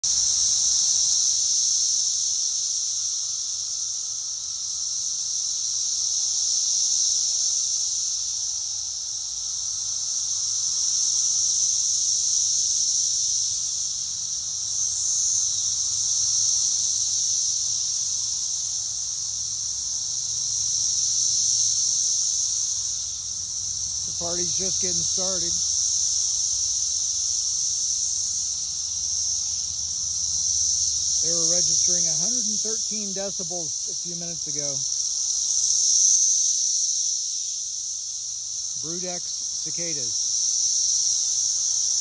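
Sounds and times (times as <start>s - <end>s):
cicadas buzzing: 0.0s - 42.0s.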